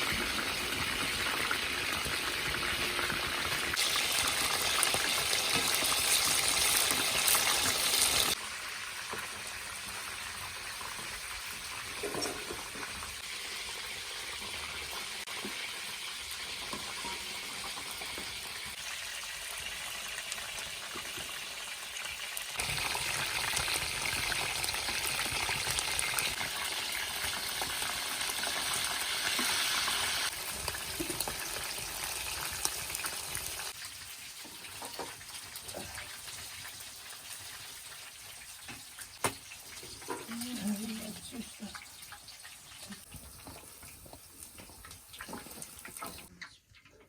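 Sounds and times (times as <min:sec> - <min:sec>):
meat sizzling: 0:00.0 - 0:46.3.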